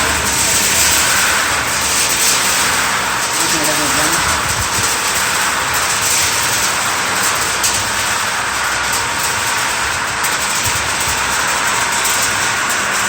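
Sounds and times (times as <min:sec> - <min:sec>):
popcorn machine rushing noise: 0:00.0 - 0:13.0.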